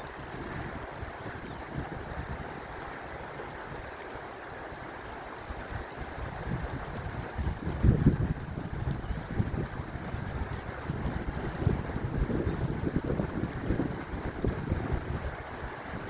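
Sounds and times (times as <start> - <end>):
wind buffeting microphone: 0.0 - 4.1, 4.7 - 16.0.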